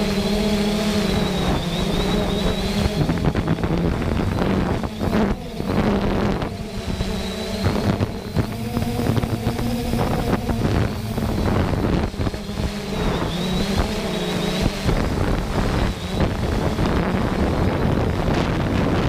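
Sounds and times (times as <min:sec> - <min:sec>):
drone propellers humming: 0:00.0 - 0:19.0
wind buffeting microphone: 0:00.0 - 0:19.0.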